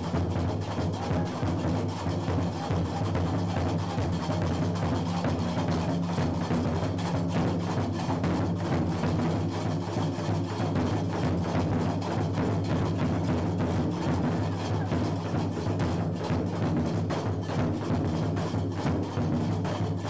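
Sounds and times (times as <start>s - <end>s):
barrel drums beating: 0.0s - 20.0s.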